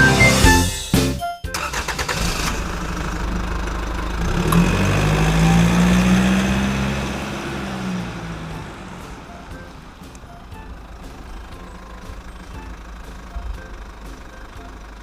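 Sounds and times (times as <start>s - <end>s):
vehicle engine humming: 1.5s - 15.0s.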